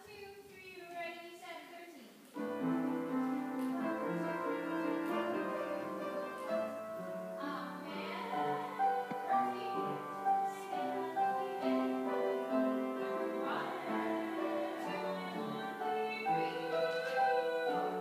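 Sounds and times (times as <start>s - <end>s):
waltz music with piano: 2.3s - 18.0s.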